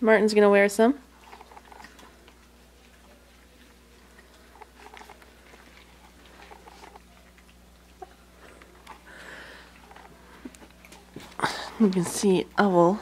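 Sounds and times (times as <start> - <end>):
puppies lapping food: 1.0 - 13.0.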